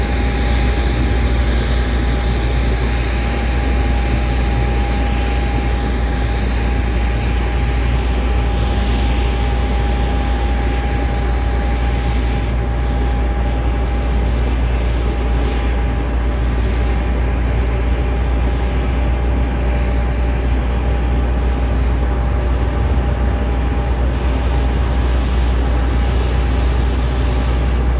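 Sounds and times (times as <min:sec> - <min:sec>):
jet engines roaring: 0:00.0 - 0:27.9.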